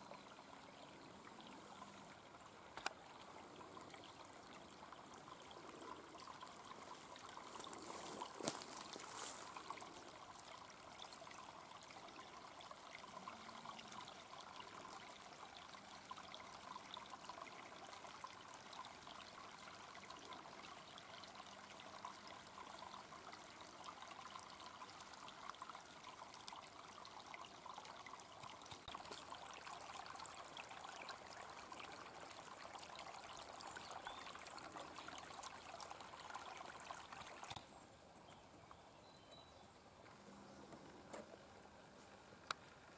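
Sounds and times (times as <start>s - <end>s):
brook babbling over stones: 0.0s - 42.9s.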